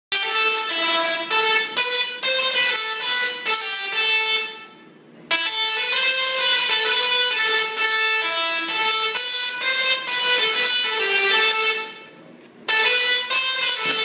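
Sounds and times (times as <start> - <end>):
musical tesla coil buzzing tune: 0.1 - 14.0.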